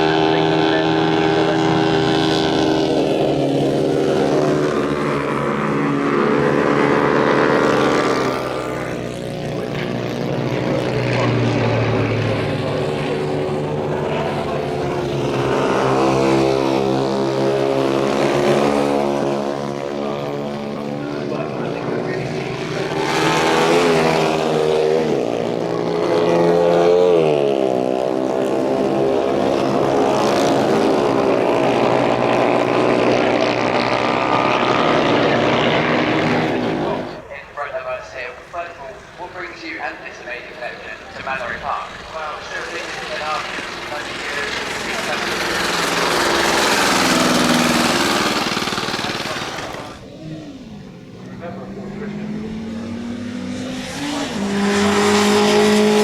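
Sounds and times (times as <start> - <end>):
motorcycles passing at high revs: 0.0 - 37.4, 39.4 - 56.0.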